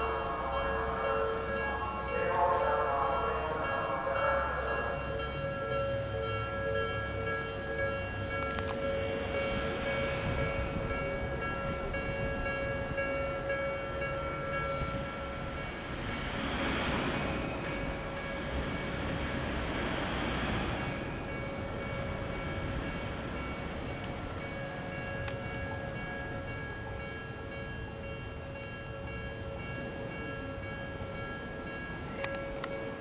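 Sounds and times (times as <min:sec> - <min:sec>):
electric train passing on rails: 0:00.0 - 0:33.0.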